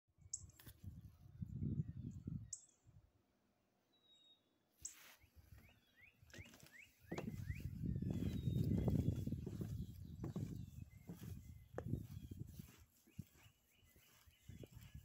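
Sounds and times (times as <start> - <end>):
bird chirps: 1.5 - 2.9, 3.9 - 15.0.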